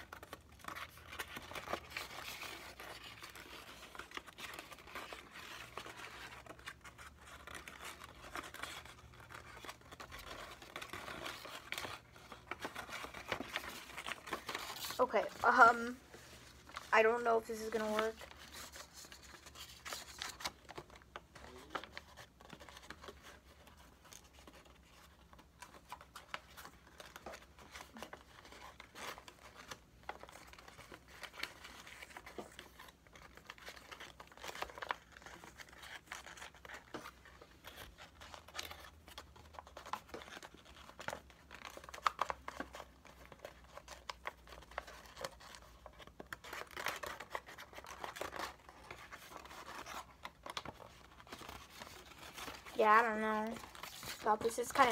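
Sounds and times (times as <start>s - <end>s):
paper rustling and crinkling: 0.0s - 54.9s.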